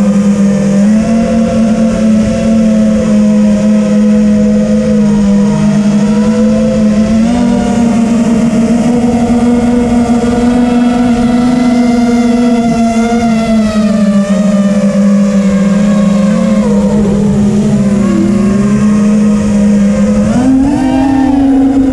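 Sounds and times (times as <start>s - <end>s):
quadcopter motors buzzing: 0.0s - 21.9s.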